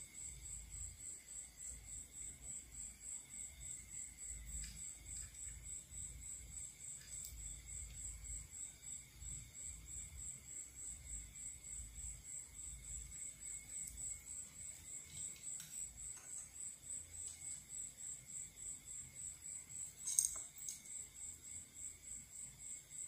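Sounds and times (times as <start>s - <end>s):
high-pitched insect chirping: 0.0s - 23.0s.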